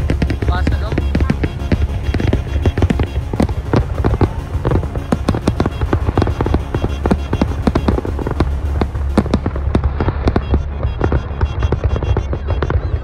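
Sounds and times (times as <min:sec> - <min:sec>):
fireworks exploding and crackling: 0:00.0 - 0:13.0
low rumble: 0:00.0 - 0:13.0
music: 0:00.0 - 0:13.0.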